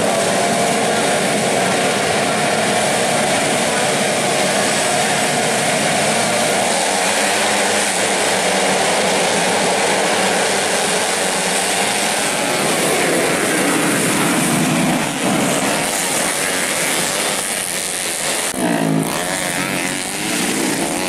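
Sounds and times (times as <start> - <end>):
dirt bikes revving and accelerating: 0.0 - 21.0.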